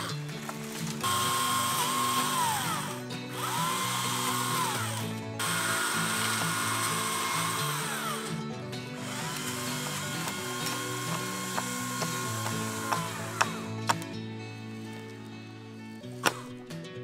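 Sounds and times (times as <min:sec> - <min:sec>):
chainsaw cutting wood: 0:00.0 - 0:15.3, 0:16.1 - 0:16.9
background music: 0:00.0 - 0:17.0.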